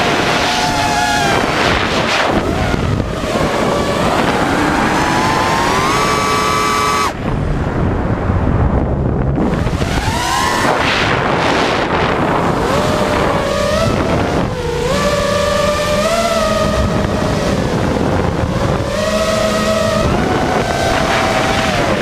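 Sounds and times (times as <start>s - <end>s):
quadcopter motors whining: 0.0s - 7.9s, 9.4s - 22.0s
wind on microphone: 0.0s - 22.0s.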